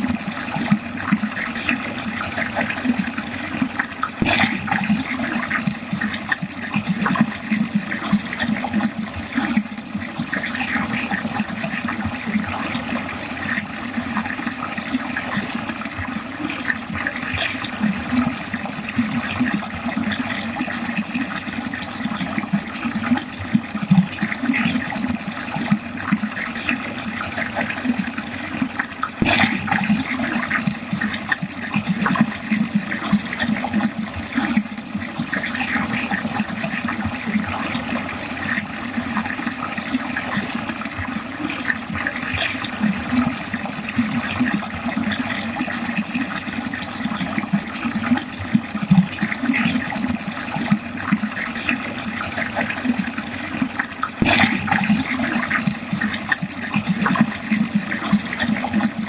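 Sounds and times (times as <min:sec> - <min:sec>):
water pouring down a drain: 0:00.0 - 0:59.0.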